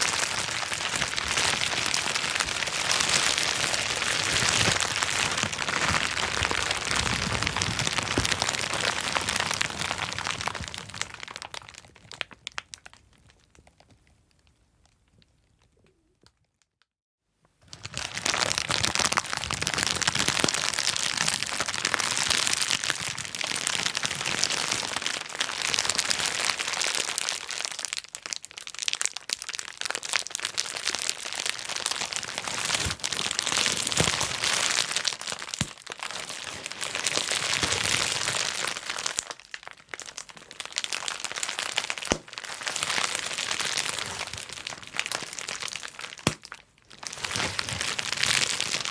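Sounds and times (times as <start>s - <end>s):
bubble wrap crinkling and popping: 0.0s - 16.8s, 17.6s - 48.9s.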